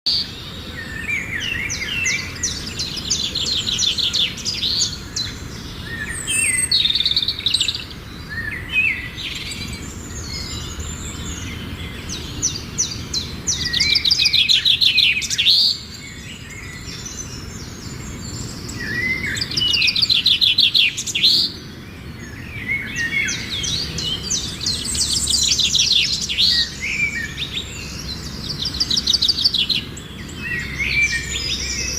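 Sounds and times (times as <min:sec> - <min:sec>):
birds chirping and singing: 0:00.1 - 0:31.9.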